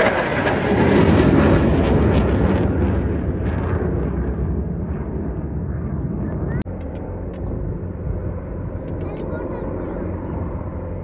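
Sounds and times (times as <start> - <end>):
fighter jet passing over: 0.0 - 11.0.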